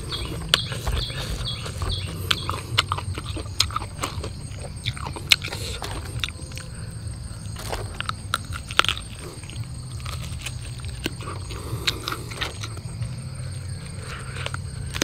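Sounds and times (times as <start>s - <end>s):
person biting and chewing fruit: 0.0s - 15.0s
steady low hum: 0.0s - 15.0s.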